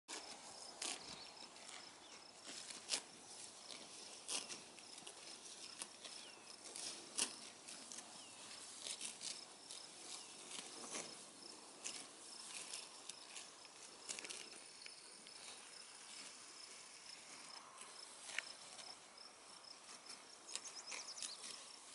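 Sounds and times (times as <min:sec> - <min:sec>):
cattle tearing and chewing grass: 0:00.1 - 0:21.9.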